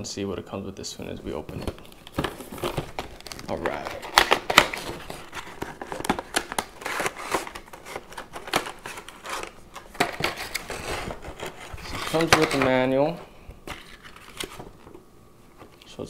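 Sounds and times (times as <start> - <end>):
plastic and cardboard crinkling: 1.3 - 15.9.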